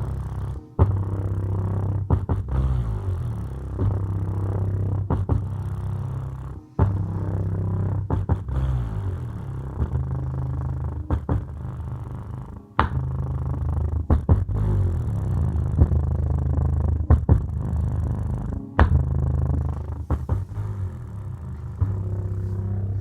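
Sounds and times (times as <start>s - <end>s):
bass-heavy music from subwoofer: 0.0s - 23.0s.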